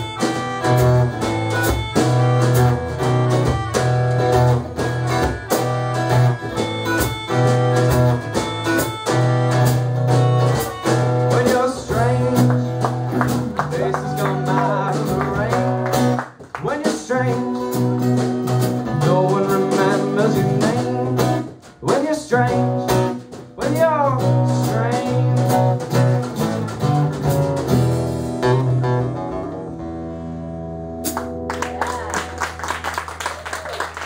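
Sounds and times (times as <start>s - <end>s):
acoustic guitars strumming: 0.0s - 31.6s.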